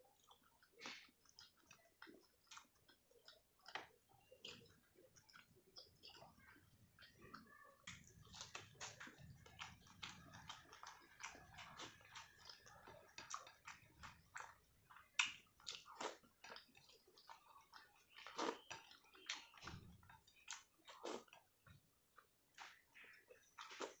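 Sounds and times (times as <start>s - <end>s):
wet chewing: 0.0s - 24.0s
sticky mouth clicks and smacks: 0.1s - 24.0s.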